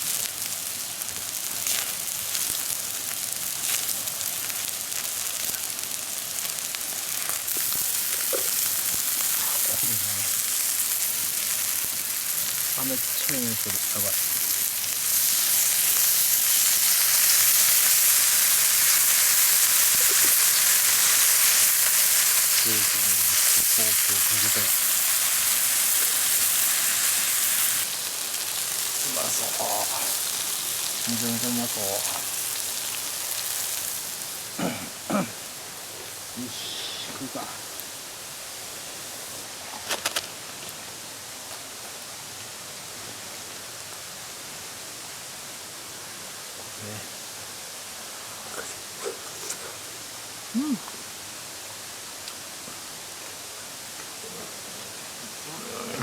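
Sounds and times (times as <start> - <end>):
steak sizzling in a frying pan: 0.0 - 54.2
steady outdoor hiss: 0.0 - 56.0.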